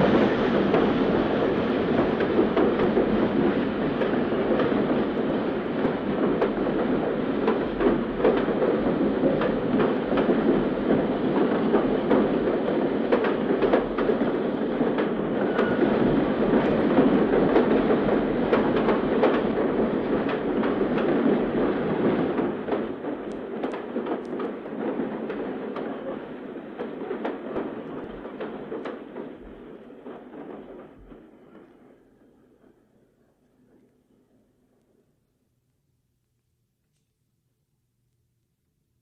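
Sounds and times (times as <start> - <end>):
train rolling past: 0.0 - 34.4.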